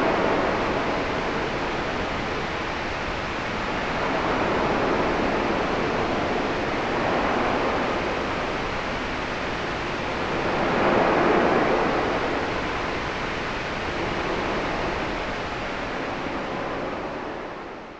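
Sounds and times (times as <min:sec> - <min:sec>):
white noise rushing: 0:00.0 - 0:17.9.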